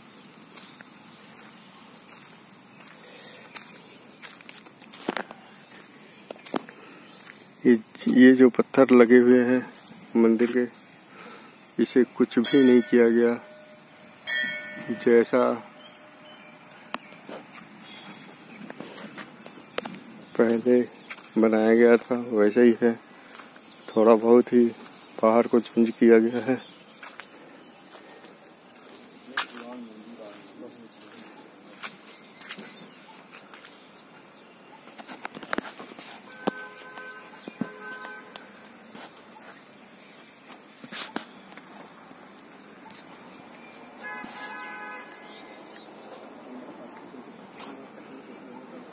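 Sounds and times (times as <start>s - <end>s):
insects chirring: 0.0s - 48.9s
footsteps on stone steps: 0.5s - 8.3s, 12.4s - 15.4s, 16.9s - 22.3s, 23.2s - 46.3s.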